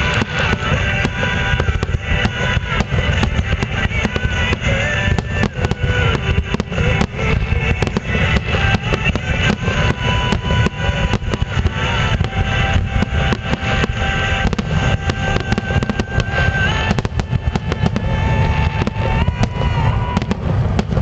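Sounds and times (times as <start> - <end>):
fireworks rumble and crackles: 0.0 - 21.0
music playing: 0.0 - 21.0.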